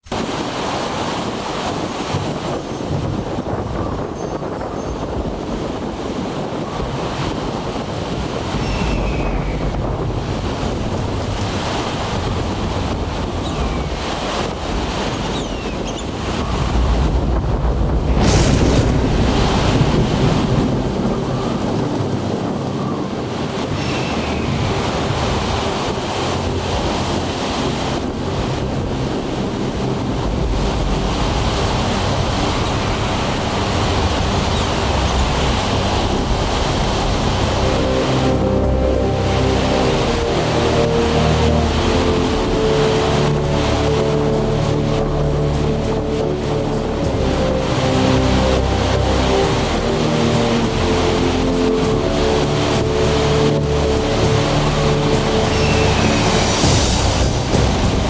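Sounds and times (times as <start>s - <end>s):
sea surf washing in: 0.0s - 58.0s
wind buffeting microphone: 0.0s - 58.0s.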